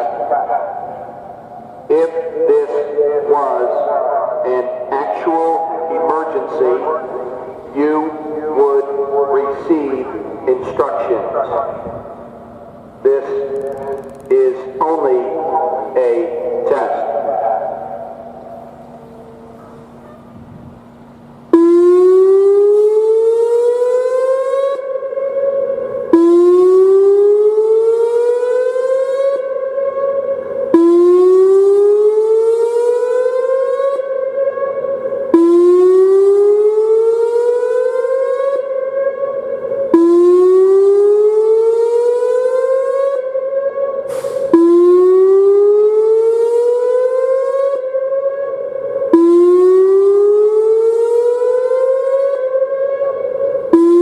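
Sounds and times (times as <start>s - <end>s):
electronic siren whooping: 0.0s - 20.8s, 21.5s - 54.0s.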